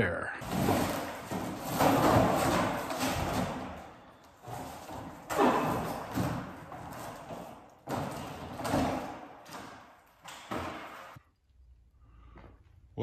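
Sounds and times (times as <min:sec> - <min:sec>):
hardboard panels knocking and scraping: 0:00.4 - 0:11.2.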